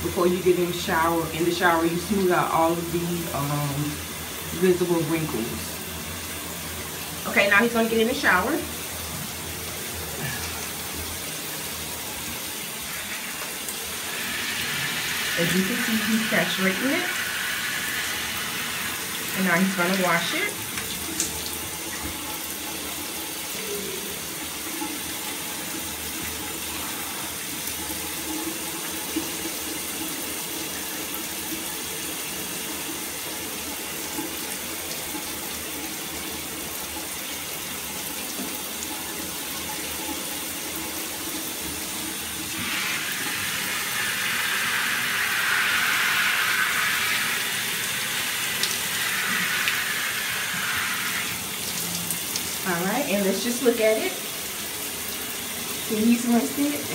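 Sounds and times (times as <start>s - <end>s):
shower water spraying on arm: 0.8s - 56.9s.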